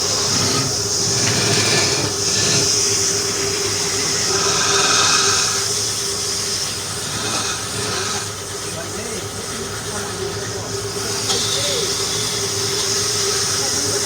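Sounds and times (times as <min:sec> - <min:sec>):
lathe motor hum: 0:00.0 - 0:14.0
tool cutting spinning wood: 0:00.0 - 0:14.0.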